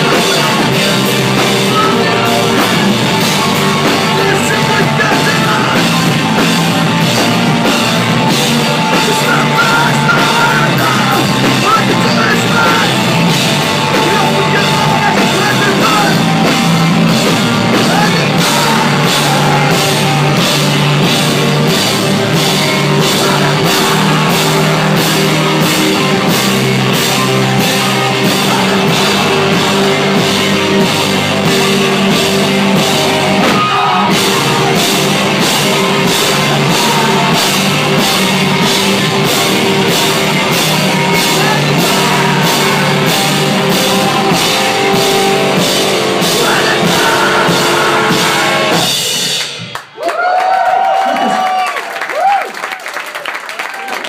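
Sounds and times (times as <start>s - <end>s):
person singing: 0.0s - 7.3s, 8.2s - 21.2s, 22.3s - 49.0s
live rock band playing: 0.0s - 50.0s.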